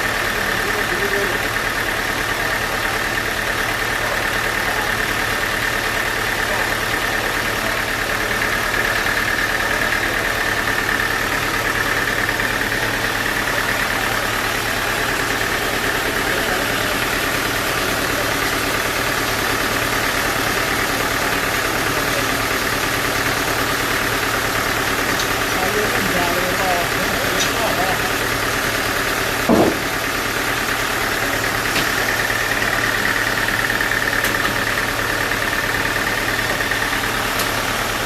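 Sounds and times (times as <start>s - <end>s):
high machine whine: 0.0s - 38.0s
sawmill machinery humming: 0.0s - 38.0s.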